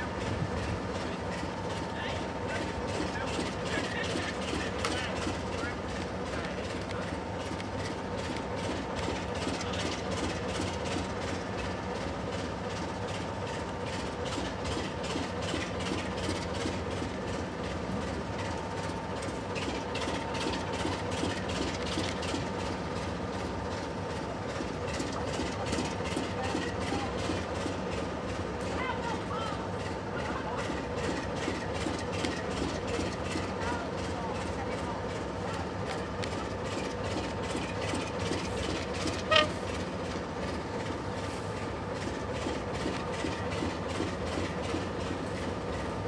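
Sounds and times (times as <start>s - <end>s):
diesel locomotive engine drone: 0.0s - 46.0s.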